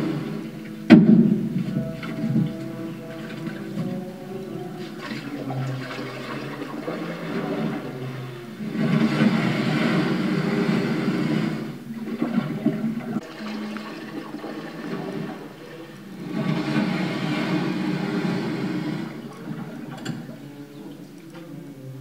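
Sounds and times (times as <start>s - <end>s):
water rushing and flushing: 0.0s - 21.4s.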